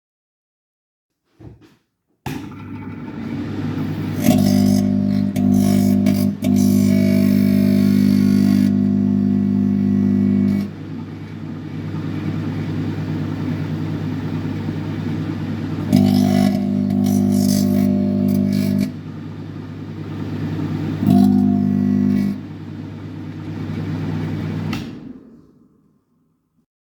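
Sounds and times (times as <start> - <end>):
microwave fan and turntable: 2.3 - 26.0
microwave electrical hum and buzz: 2.3 - 26.5.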